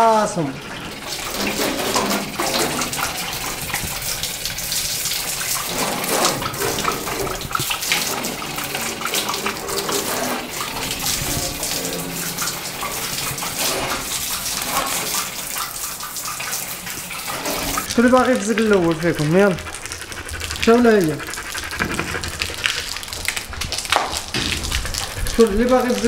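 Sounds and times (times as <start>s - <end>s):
water splashing on tiled floor: 0.0s - 26.0s
water spraying from a hose: 0.0s - 26.0s.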